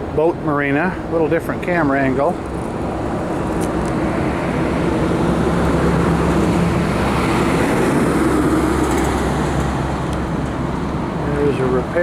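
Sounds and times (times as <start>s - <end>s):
engine hum: 0.0s - 12.0s
passing traffic rumble: 0.0s - 12.0s.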